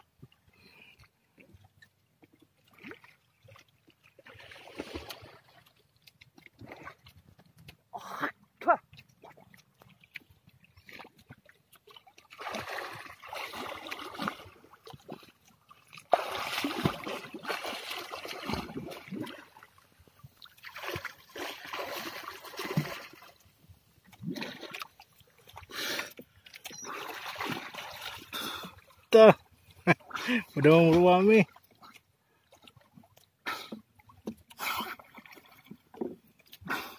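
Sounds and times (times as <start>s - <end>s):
water splashing from swimming: 2.4s - 36.9s.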